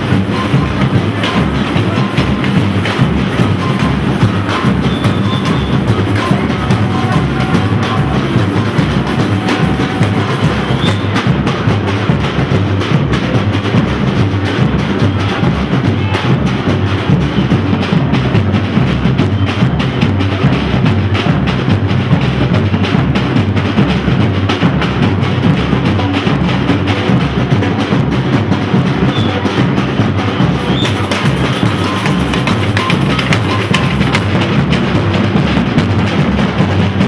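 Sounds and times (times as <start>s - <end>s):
bass drums beating: 0.0s - 37.0s
samba drum ensemble: 0.0s - 37.0s.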